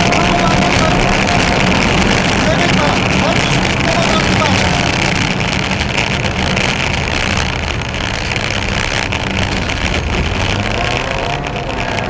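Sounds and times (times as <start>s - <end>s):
car engine running hard: 0.0s - 12.0s
road and tyre noise: 0.0s - 12.0s.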